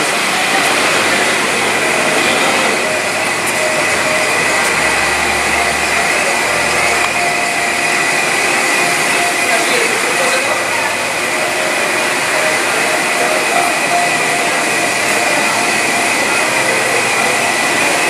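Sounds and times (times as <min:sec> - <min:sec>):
high whine: 0:00.0 - 0:18.0
mechanical whirring drone: 0:00.0 - 0:18.0
deep hum: 0:00.7 - 0:18.0.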